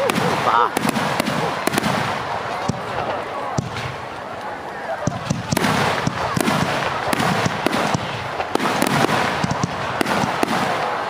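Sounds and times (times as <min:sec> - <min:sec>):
continuous fireworks crackle: 0:00.0 - 0:11.0
fireworks cracking: 0:00.0 - 0:11.0.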